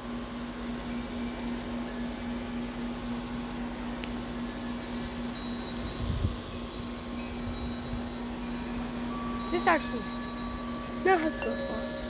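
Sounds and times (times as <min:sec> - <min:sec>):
background hiss: 0:00.0 - 0:12.0
steady mechanical hum: 0:00.0 - 0:12.0.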